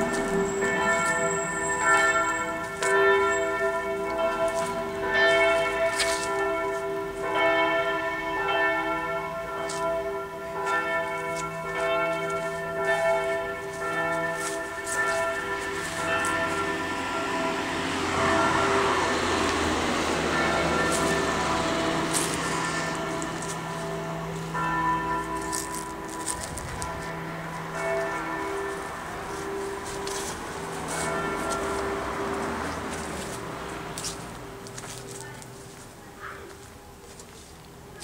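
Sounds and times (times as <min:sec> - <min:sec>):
church bells ringing: 0:00.0 - 0:38.0.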